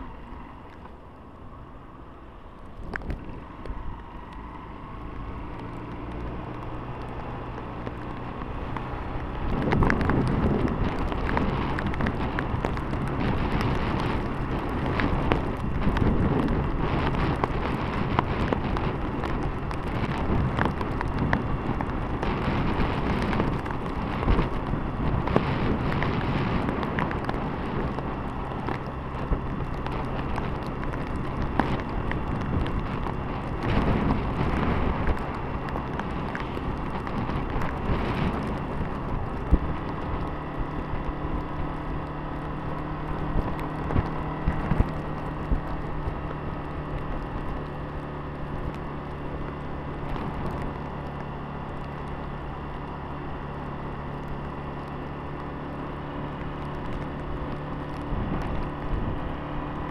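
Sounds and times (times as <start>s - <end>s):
motorcycle engine running: 0.0s - 59.9s
wind noise on microphone: 5.1s - 52.8s, 53.6s - 59.9s.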